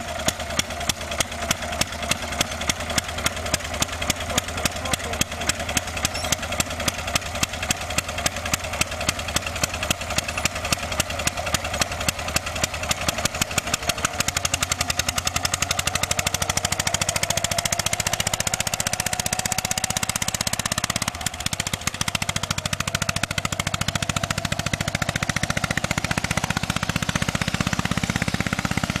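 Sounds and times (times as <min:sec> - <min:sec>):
tractor engine chugging: 0:00.0 - 0:29.0.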